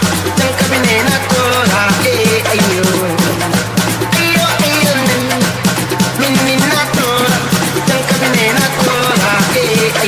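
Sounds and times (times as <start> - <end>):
electronic dance music: 0.9 - 10.0.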